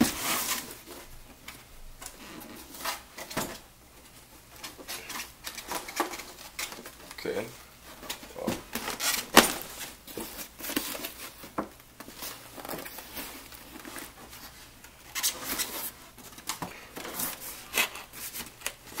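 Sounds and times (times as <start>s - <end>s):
cardboard rustling: 0.0s - 19.0s.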